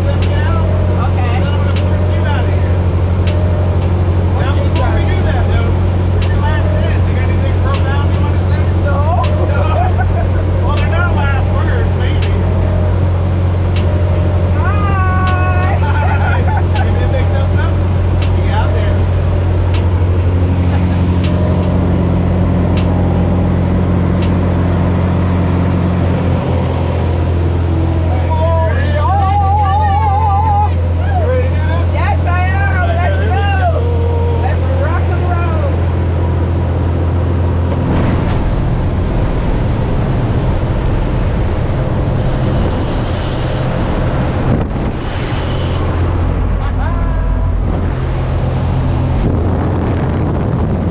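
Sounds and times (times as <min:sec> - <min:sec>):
rushing noise: 0:00.0 - 0:28.9, 0:36.0 - 0:50.9
propeller airplane engine droning: 0:00.0 - 0:50.9.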